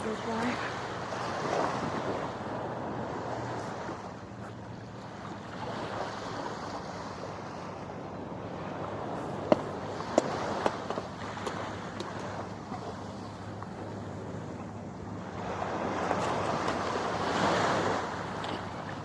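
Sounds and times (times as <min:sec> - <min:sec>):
waves washing at shore: 0:00.0 - 0:19.0.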